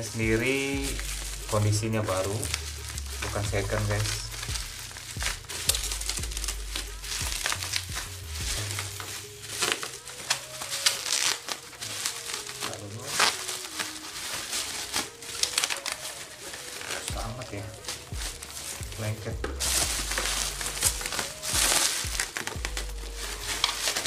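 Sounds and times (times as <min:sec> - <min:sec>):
plastic packaging crinkling: 0:00.0 - 0:24.0.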